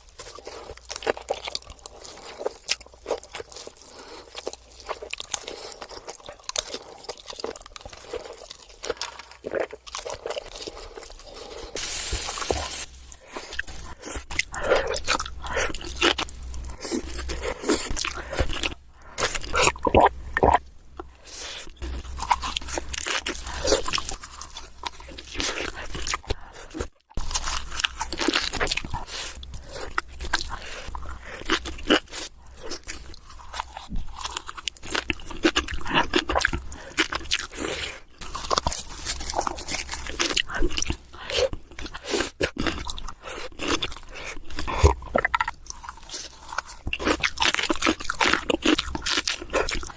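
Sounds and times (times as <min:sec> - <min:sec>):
crisp crunching and chewing: 0:00.0 - 0:49.9.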